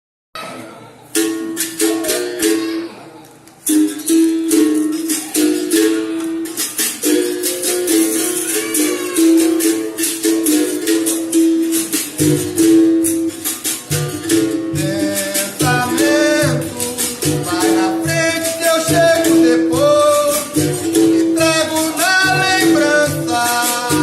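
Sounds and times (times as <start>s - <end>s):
shaken rattle: 3.5s - 24.0s.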